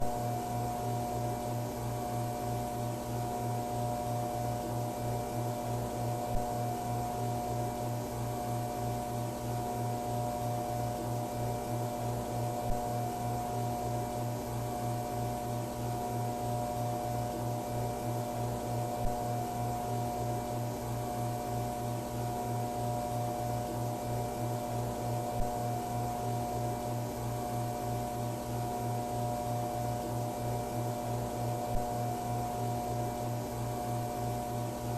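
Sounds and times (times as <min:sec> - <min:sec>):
fluorescent lights buzzing hum: 0:00.0 - 0:34.9.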